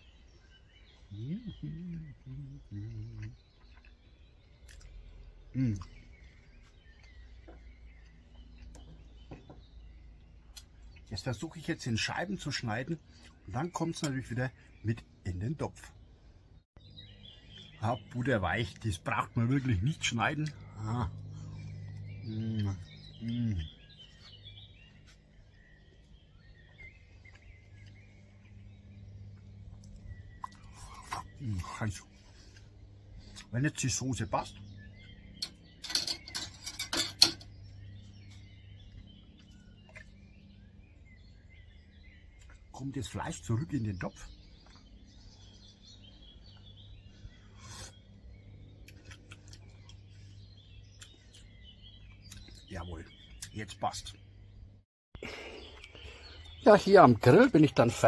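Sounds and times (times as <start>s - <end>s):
low steady hum: 0.0s - 58.0s
small birds chirping: 0.0s - 58.0s.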